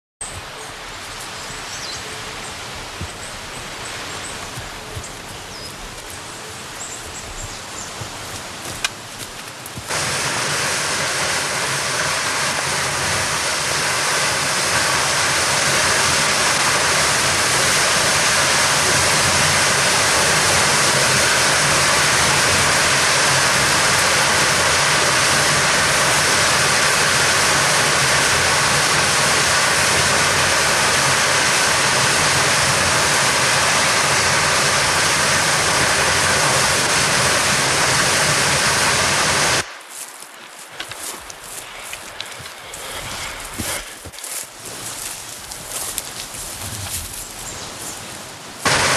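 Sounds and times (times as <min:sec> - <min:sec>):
waterfall rushing: 0:00.4 - 0:39.8, 0:48.6 - 0:48.9.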